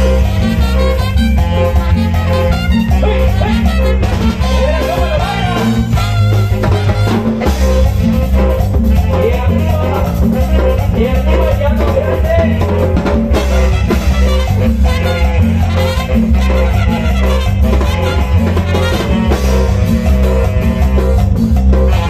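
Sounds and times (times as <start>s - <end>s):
live band playing latin dance music: 0.0s - 22.0s.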